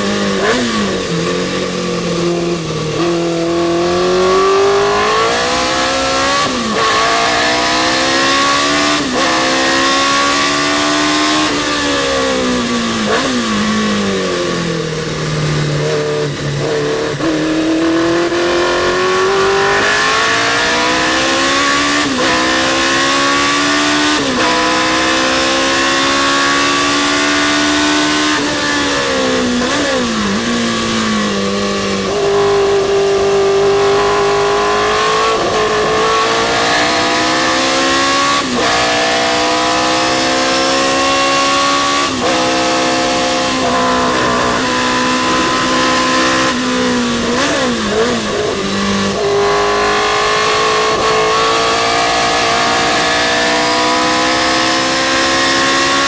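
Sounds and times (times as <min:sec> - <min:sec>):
racing car engine accelerating: 0:00.0 - 0:56.0.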